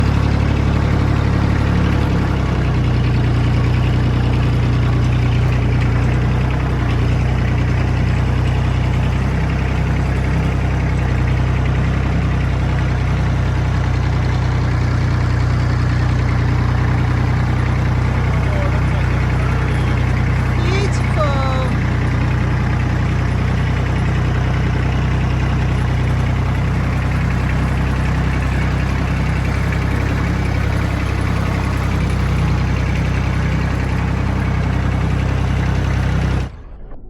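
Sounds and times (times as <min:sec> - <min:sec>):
tractor engine running: 0:00.0 - 0:36.5.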